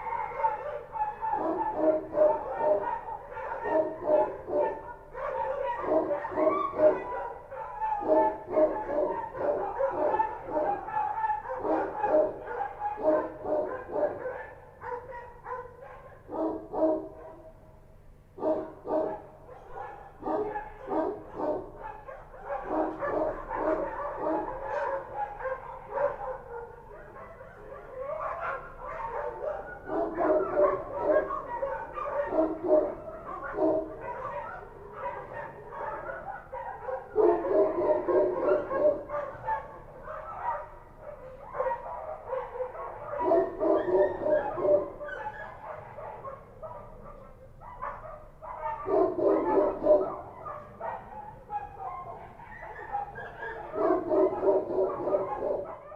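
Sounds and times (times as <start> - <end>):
dogs barking: 0.0 - 55.9.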